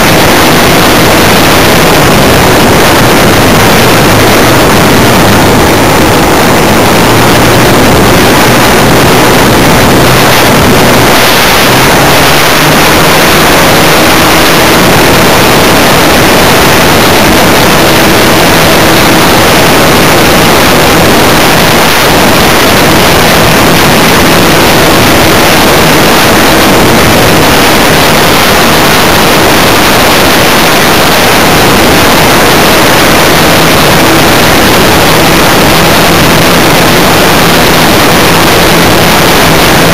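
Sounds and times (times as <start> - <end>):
model plane engine tone: 0.0 - 39.9
wind rushing over microphone: 0.0 - 39.9.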